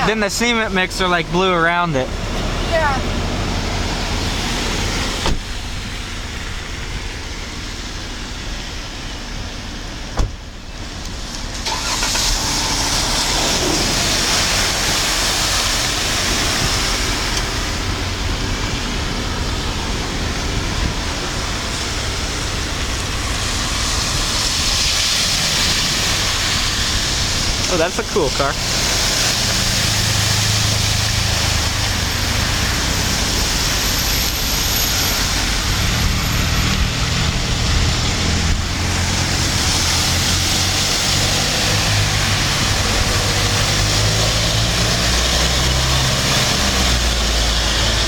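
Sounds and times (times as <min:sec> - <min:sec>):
low engine rumble: 0:00.0 - 0:48.0
tyres hissing on wet road: 0:00.0 - 0:48.0.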